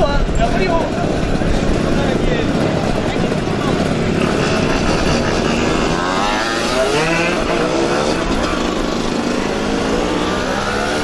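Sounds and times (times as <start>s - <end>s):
moped engines revving: 0.0s - 11.0s.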